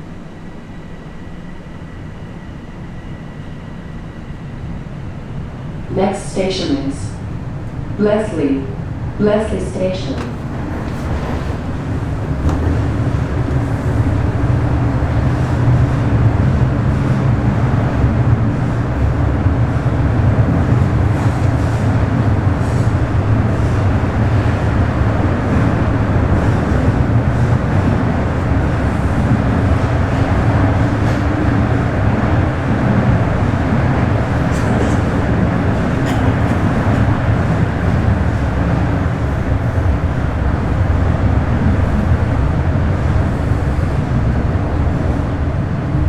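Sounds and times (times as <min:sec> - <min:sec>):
subway train rumbling on rails: 0:00.0 - 0:46.0.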